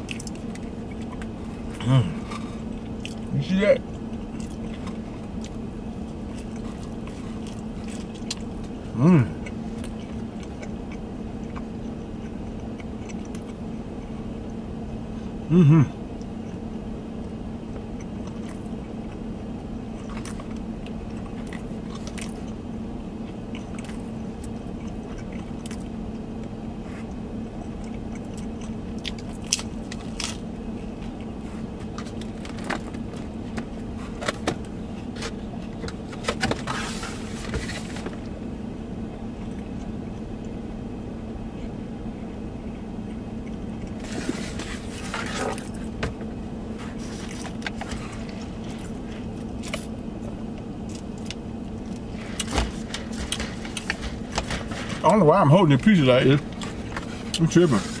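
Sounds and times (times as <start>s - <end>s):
chewing crispy pizza: 0.0s - 40.6s, 41.3s - 58.0s
low cabin hum: 0.0s - 58.0s.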